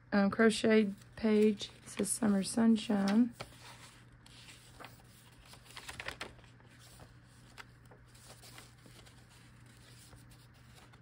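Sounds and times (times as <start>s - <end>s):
faint steady hum: 0.0s - 11.0s
paper pages turning: 0.8s - 11.0s.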